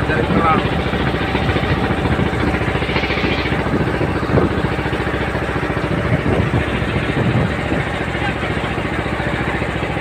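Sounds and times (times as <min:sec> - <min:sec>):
boat engine chugging: 0:00.0 - 0:10.0.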